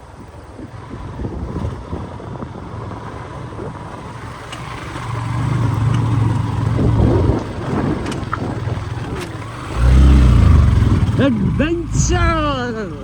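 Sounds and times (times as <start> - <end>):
road noise: 0.0 - 13.0
vehicle engine running: 2.5 - 13.0.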